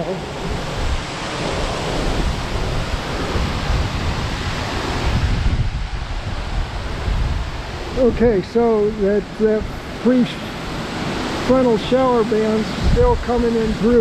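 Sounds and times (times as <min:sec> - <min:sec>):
storm wind gusting: 0:00.0 - 0:14.0.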